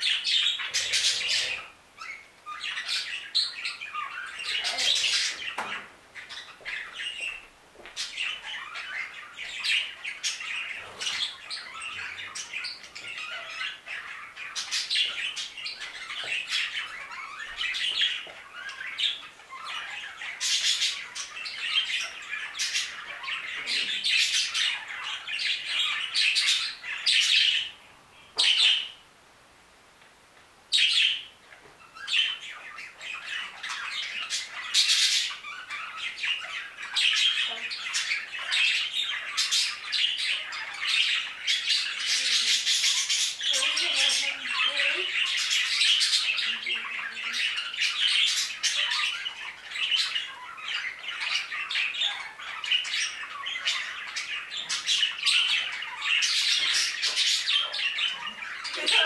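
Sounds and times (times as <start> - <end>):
budgerigars chattering: 0.0 - 27.8, 28.4 - 29.0, 30.8 - 59.0.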